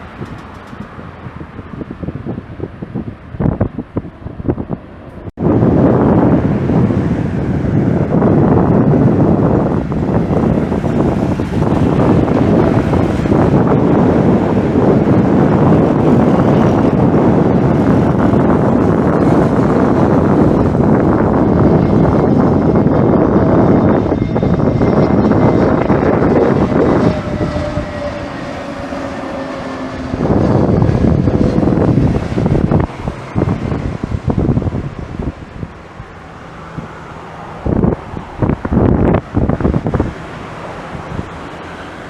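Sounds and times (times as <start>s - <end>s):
jet engines roaring: 0.0s - 42.0s
wind buffeting microphone: 0.0s - 42.0s.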